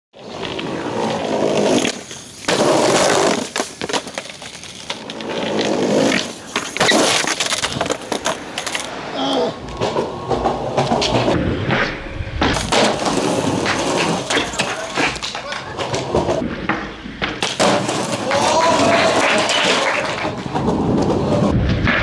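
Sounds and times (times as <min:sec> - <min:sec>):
skateboard clacking on ground: 0:00.2 - 0:11.9, 0:12.5 - 0:22.0
skateboard wheels rolling on concrete: 0:00.2 - 0:22.0.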